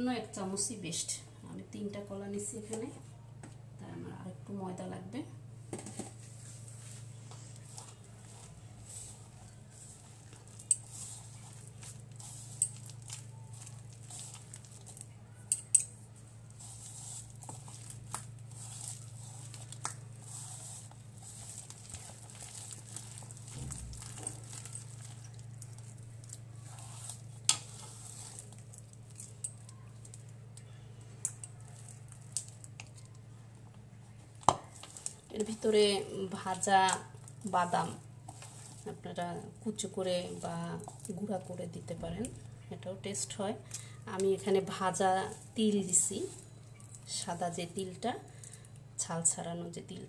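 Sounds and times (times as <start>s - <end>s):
steady low hum: 0.0s - 50.0s
hand kneading soft dough: 6.1s - 48.1s.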